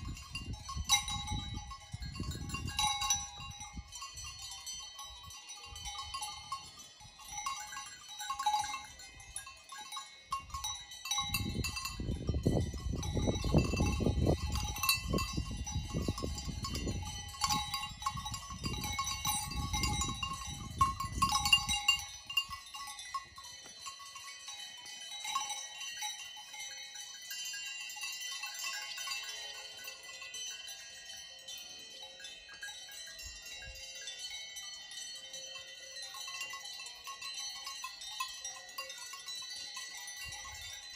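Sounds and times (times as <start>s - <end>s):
cowbells clanking: 0.0s - 40.9s.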